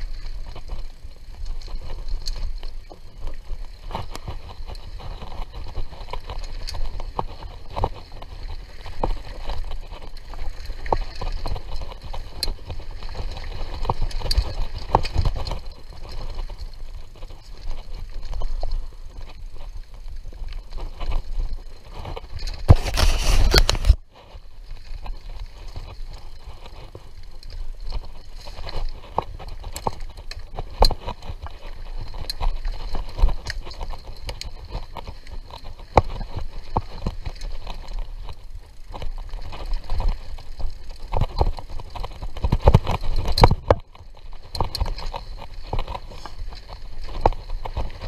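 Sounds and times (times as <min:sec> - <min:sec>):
bike knocking and rattling: 0:00.0 - 0:48.0
bike tyres rolling on dirt: 0:00.0 - 0:48.0.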